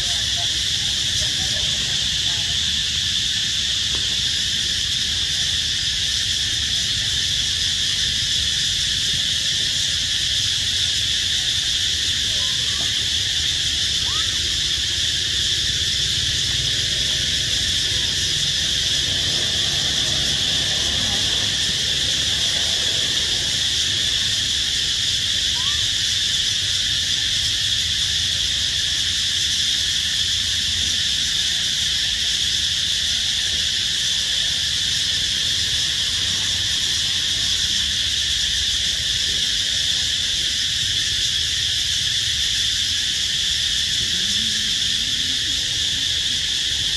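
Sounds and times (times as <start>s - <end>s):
insects shrilling: 0.0s - 46.9s.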